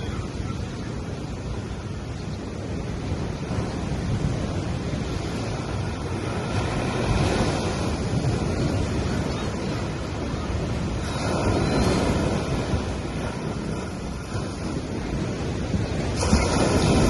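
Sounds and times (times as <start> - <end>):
waves washing onto beach: 0.0 - 17.0.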